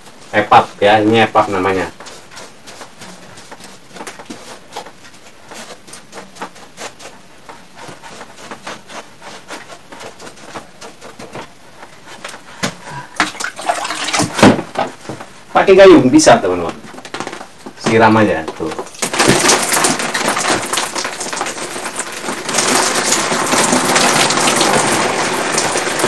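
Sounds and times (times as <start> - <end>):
knocks and rustling: 0.0 - 15.5, 16.6 - 26.0.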